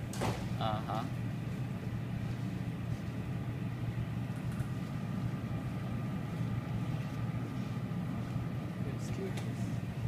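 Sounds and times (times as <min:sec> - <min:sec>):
ventilation fan humming: 0:00.0 - 0:10.0.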